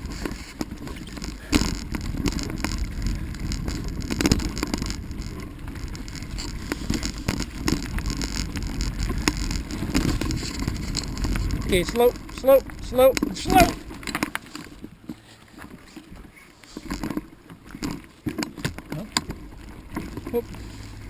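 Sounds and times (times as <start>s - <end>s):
bicycle rattling over bumps: 0.0s - 21.0s
bicycle tyre rumble: 0.0s - 21.0s.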